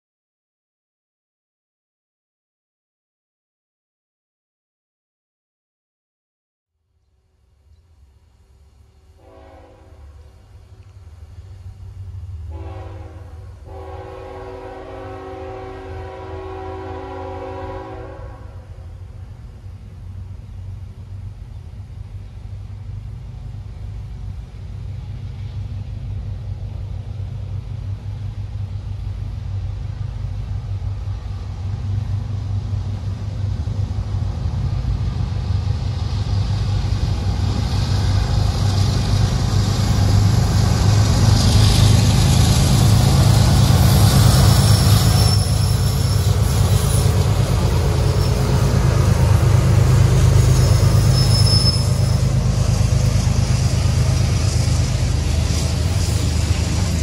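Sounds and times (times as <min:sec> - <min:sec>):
wheel and rail noise: 0:07.4 - 0:57.0
locomotive engine rumble: 0:07.5 - 0:57.0.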